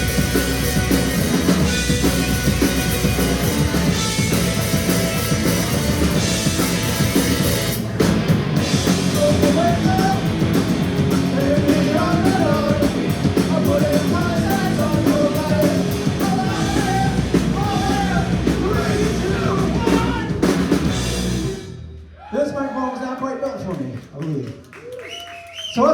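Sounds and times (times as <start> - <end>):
live band playing: 0.0 - 21.9.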